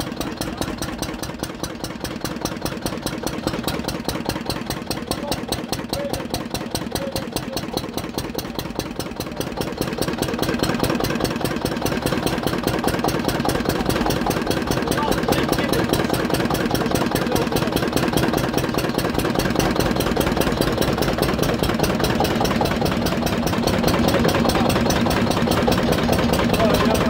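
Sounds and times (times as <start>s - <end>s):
diesel generator engine running: 0.0s - 27.0s.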